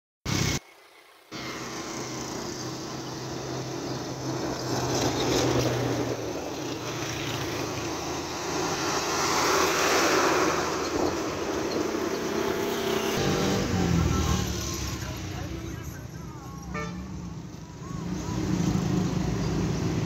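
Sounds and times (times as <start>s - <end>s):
trucks passing on a road: 0.3s - 20.0s.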